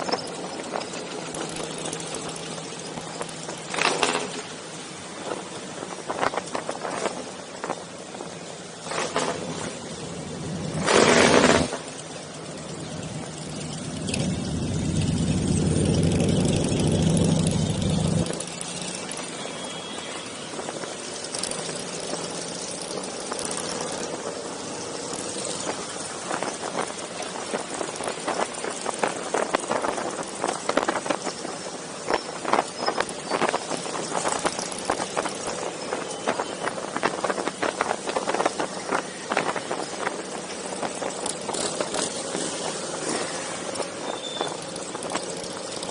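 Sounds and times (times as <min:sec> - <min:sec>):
motorcycle engines running: 0:00.0 - 0:45.9.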